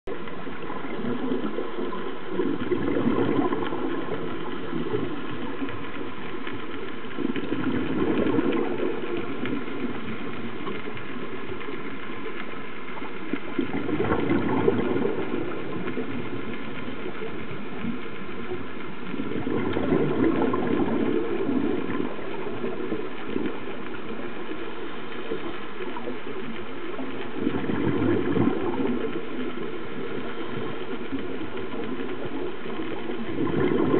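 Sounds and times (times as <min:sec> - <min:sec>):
bubbles rumbling underwater: 0:00.1 - 0:33.9.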